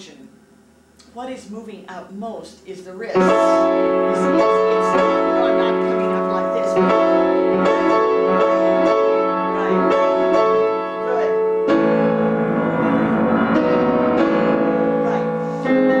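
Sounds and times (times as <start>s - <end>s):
piano chords: 3.1s - 16.0s.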